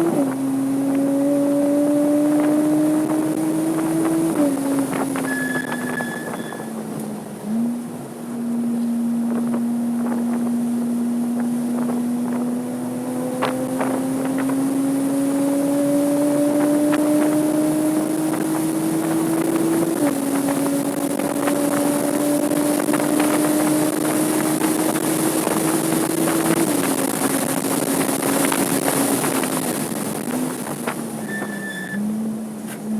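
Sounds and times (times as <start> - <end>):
car engine accelerating through gears: 0.0 - 32.9
wind noise: 0.0 - 32.9.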